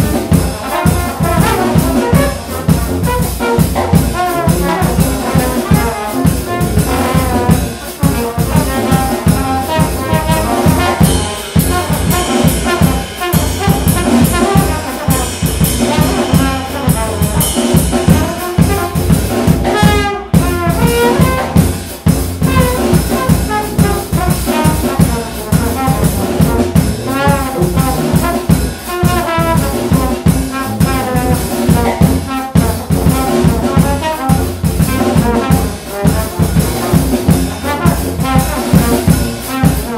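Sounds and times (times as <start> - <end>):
brass ensemble playing: 0.0 - 39.9
drum kit rhythm: 0.0 - 39.9.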